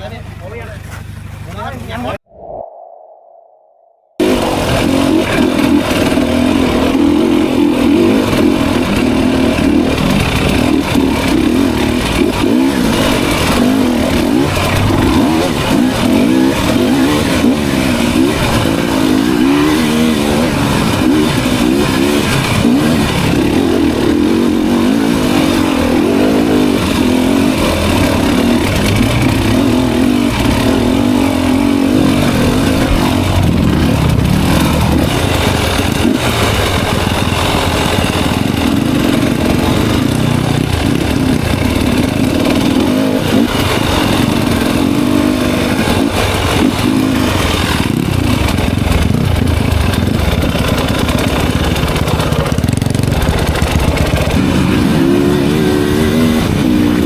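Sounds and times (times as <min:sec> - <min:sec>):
dirt bike engine revving: 0:04.2 - 0:57.0.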